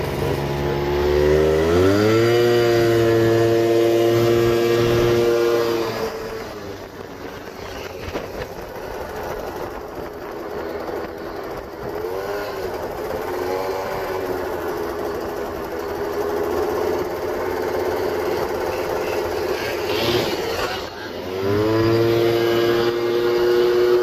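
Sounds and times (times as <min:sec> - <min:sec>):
scooter engine revving high: 0:00.0 - 0:24.0.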